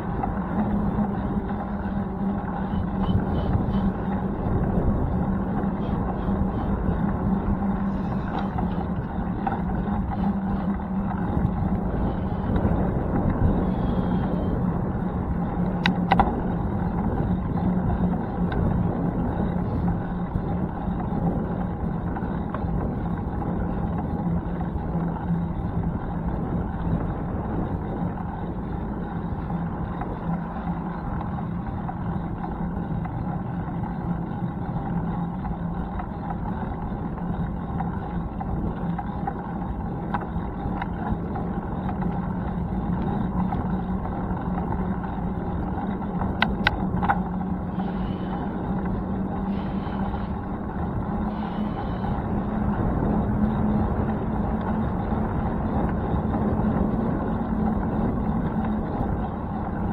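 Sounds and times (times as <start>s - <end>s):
bicycle road rumble: 0.0s - 59.9s
low hum: 0.0s - 59.9s
wind noise: 0.0s - 59.9s.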